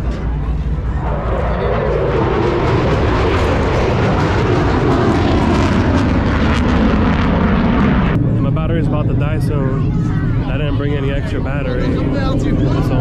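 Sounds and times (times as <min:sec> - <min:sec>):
aircraft flying past: 0:00.0 - 0:13.0.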